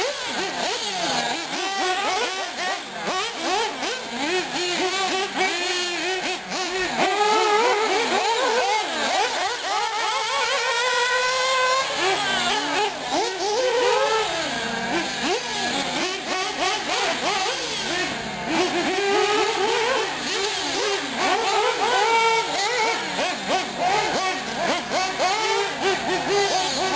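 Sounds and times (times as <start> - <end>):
small nitro engines revving: 0.0 - 26.9.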